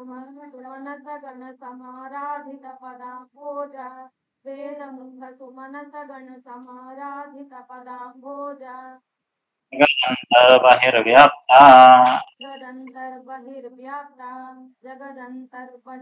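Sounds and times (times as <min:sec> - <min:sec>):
woman singing through video call: 0:00.0 - 0:09.1, 0:12.2 - 0:16.0.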